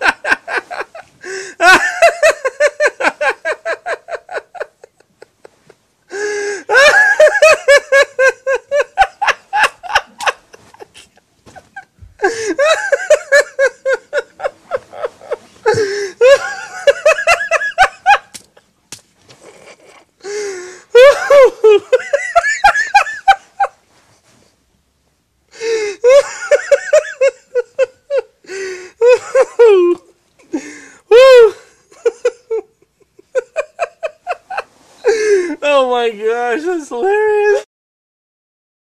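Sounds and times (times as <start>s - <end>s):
man laughing uncontrollably: 0.0s - 18.5s, 19.4s - 23.8s, 25.6s - 28.4s, 29.0s - 30.1s, 31.1s - 35.6s.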